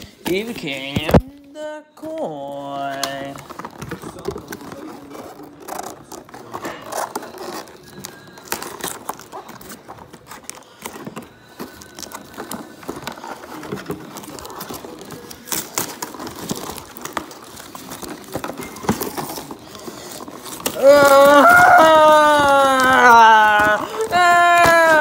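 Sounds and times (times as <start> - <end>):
plastic packaging crinkling: 2.0 - 25.0.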